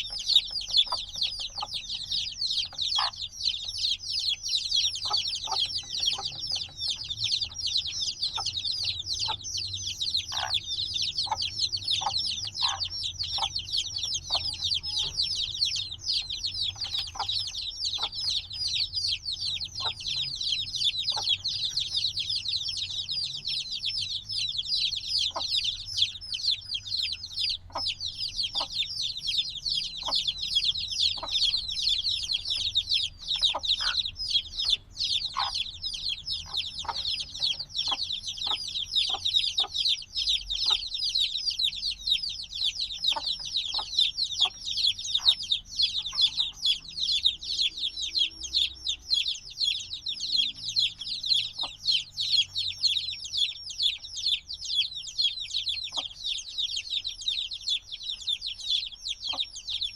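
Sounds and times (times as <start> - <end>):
chicks peeping: 0.0 - 59.9
short lower chick calls: 0.0 - 59.9.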